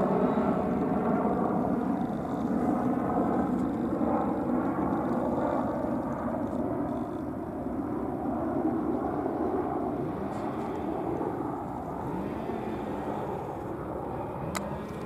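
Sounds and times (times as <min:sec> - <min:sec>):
helicopter rotor drone: 0:00.0 - 0:15.0.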